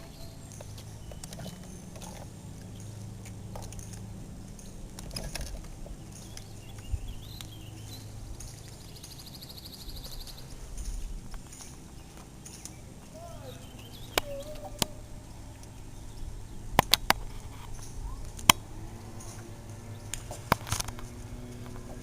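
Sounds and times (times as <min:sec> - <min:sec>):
bird chirps: 0:00.0 - 0:03.2, 0:03.8 - 0:20.3
steady low hum: 0:00.0 - 0:22.0.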